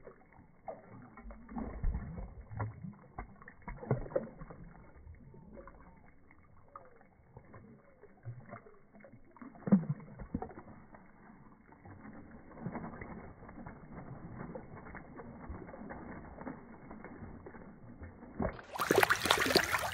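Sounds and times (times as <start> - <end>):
shallow water splashing: 0.0 - 19.9.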